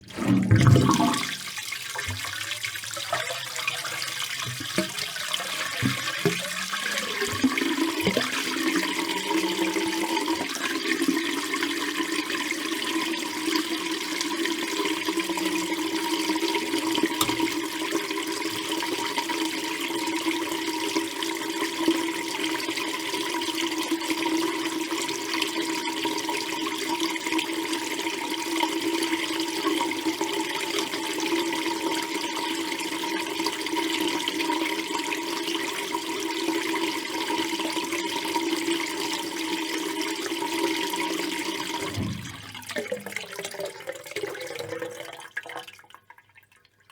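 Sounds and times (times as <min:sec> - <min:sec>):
water gurgling down a drain: 0:00.0 - 0:20.7, 0:27.8 - 0:46.6.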